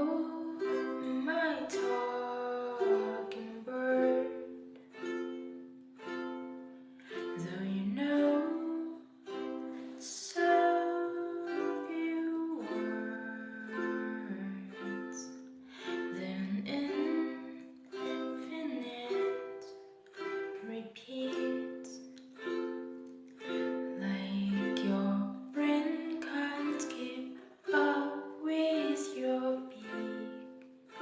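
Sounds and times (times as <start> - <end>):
ukulele picked chords: 0.0 - 31.0.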